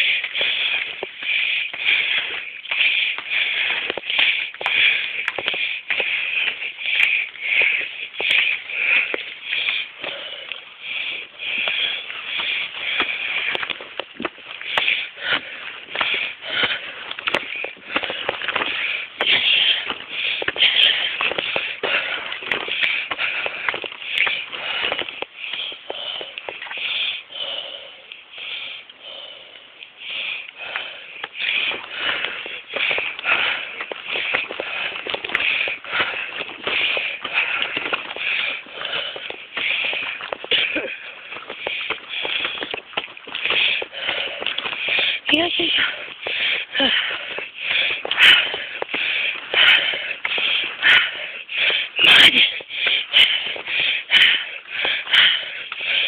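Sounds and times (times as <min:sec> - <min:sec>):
footsteps on stone steps: 0:00.0 - 0:56.0
handheld camera rustling: 0:00.0 - 0:56.0
puffing breathing: 0:00.0 - 0:56.0.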